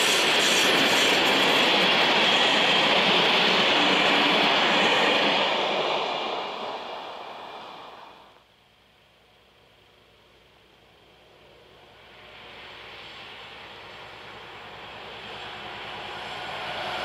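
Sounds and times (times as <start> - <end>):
train wheels rumbling on rails: 0.0 - 8.3, 10.9 - 17.0.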